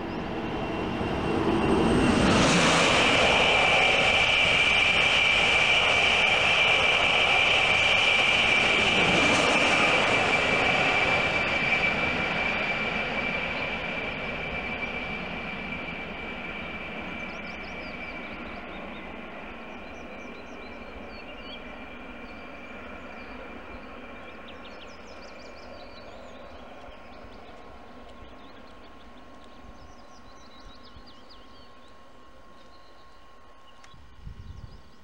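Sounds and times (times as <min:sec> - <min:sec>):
birds chirping: 0:00.0 - 0:14.0, 0:16.2 - 0:35.0
train rushing with high whine: 0:00.0 - 0:35.0.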